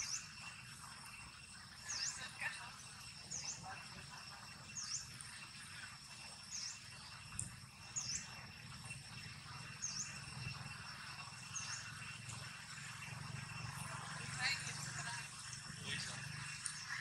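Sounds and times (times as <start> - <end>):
bird chirping: 0.0 - 17.0
insects droning: 0.0 - 17.0.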